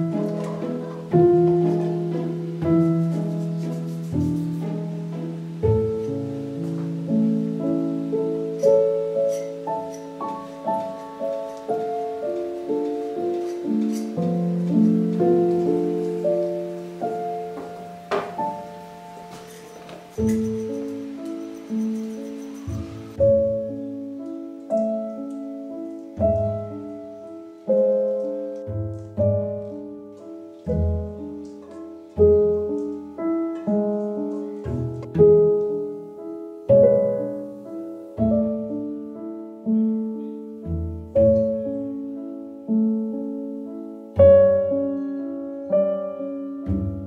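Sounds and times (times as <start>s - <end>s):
soft piano chords: 0.0s - 47.0s.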